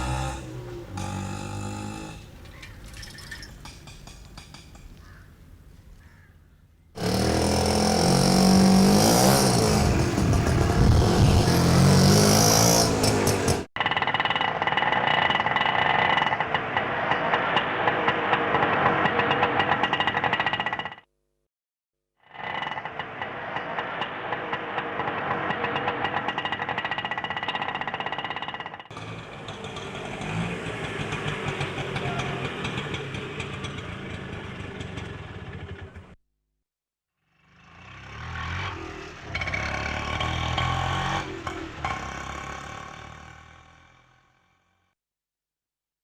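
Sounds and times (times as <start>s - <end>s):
auto rickshaw engine revving: 0.0s - 3.4s, 7.0s - 21.1s, 22.3s - 36.2s, 37.4s - 44.8s.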